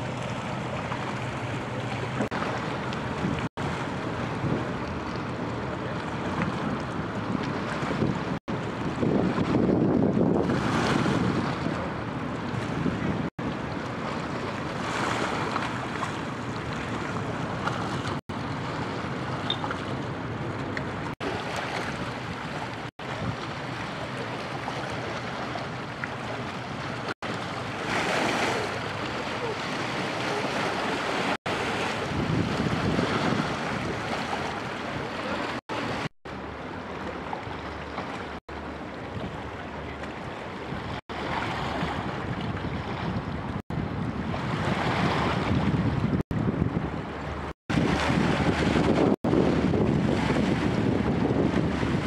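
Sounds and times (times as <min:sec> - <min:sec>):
wind buffeting microphone: 0:00.0 - 0:25.6, 0:29.5 - 0:52.0
river water lapping: 0:00.0 - 0:52.0.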